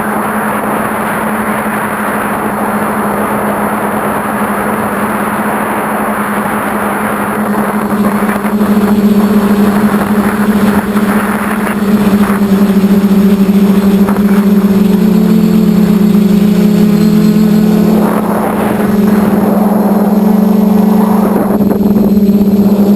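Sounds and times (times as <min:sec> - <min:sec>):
quadcopter propellers droning: 0:00.0 - 0:22.9
rushing noise: 0:00.0 - 0:22.9.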